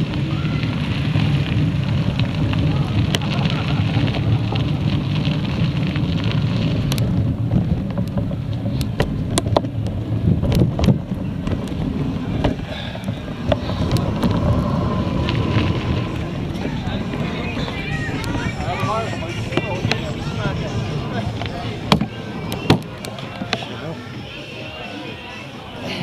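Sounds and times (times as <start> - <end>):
wind buffeting microphone: 0.0 - 24.8
heavy low rumble: 0.0 - 26.0.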